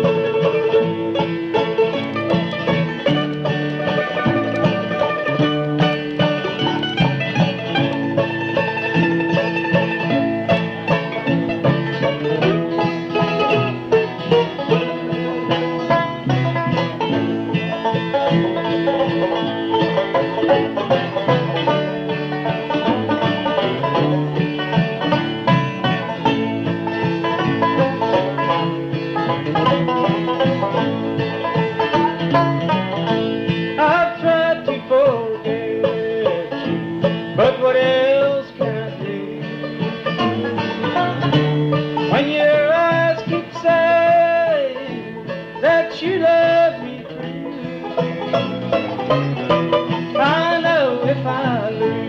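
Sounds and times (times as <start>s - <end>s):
banjo: 0.0s - 52.0s
bluegrass band playing: 0.0s - 52.0s.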